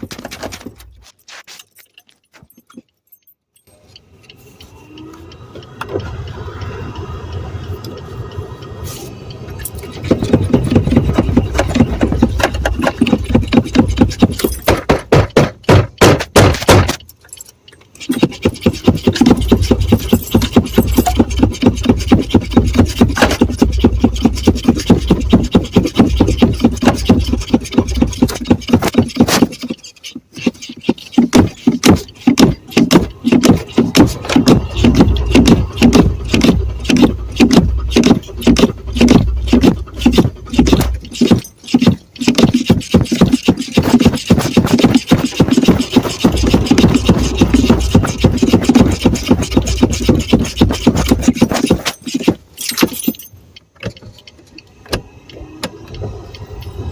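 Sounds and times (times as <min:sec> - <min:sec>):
car engine cranking: 0:00.0 - 0:56.9.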